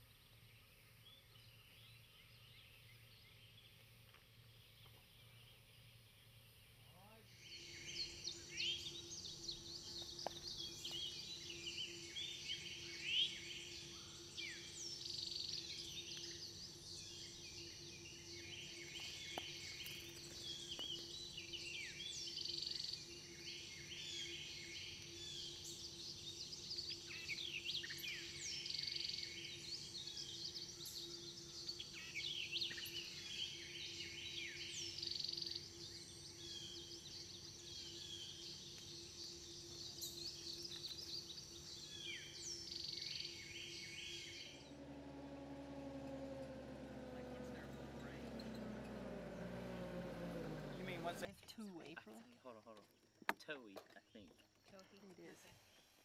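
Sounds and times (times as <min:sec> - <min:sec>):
woodland birds singing: 0:00.0 - 0:56.0.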